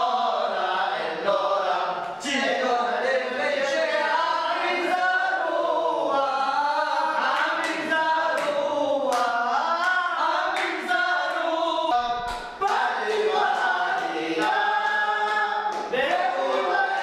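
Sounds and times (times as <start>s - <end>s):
men chanting prayers: 0.0s - 17.0s.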